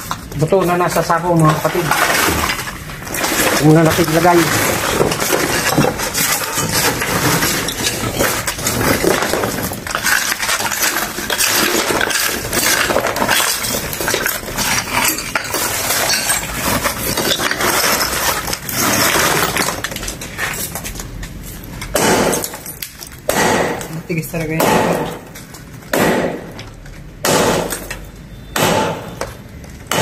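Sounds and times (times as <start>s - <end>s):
concrete chunks clattering: 0.0s - 30.0s.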